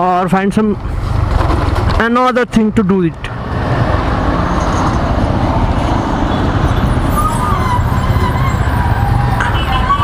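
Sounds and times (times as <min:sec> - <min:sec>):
motorcycle and traffic rumble: 0:00.0 - 0:10.0.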